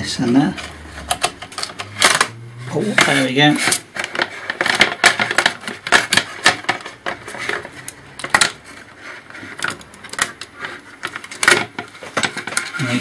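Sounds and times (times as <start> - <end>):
laptop parts clattering: 0.2 - 13.0.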